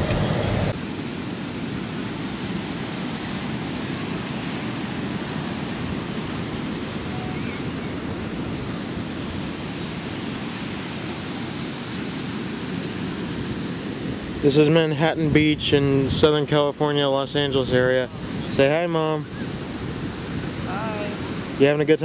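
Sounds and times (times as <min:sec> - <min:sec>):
wind on microphone: 0:00.0 - 0:21.6
ocean surf washing: 0:00.0 - 0:22.0.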